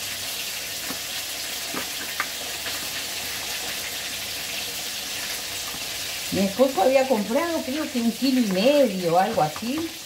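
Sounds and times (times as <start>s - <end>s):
meat frying in hot oil: 0.0s - 10.0s.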